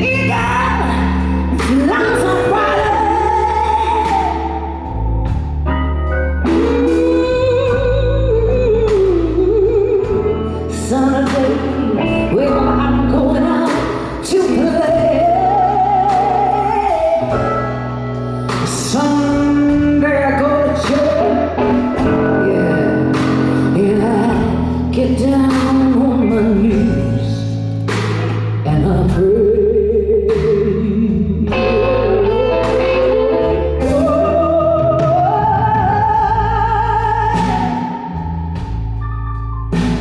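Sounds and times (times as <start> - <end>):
blues band playing: 0.0 - 40.0
lead guitar melody with bends: 0.0 - 40.0.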